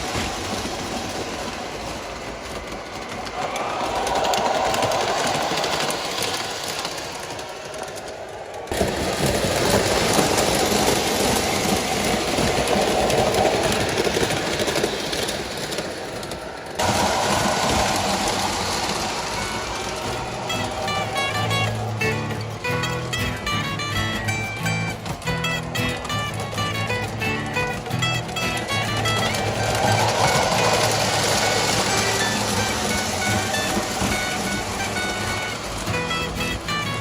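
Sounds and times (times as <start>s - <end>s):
model trains rumbling on track: 0.0s - 37.0s.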